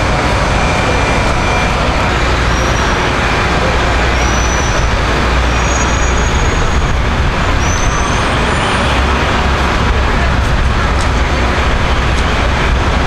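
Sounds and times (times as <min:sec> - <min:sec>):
deep engine rumble: 0:00.0 - 0:13.0.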